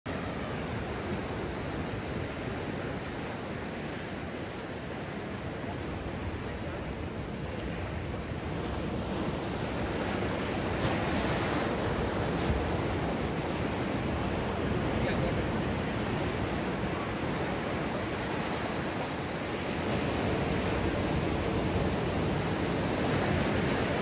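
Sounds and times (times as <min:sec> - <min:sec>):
waves breaking on beach: 0:00.1 - 0:24.0.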